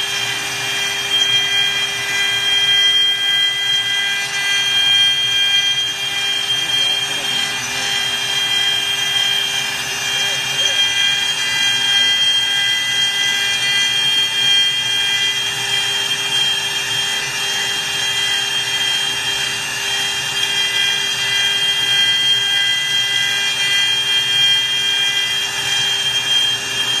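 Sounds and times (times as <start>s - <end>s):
router spindle high whine: 0.0s - 27.0s.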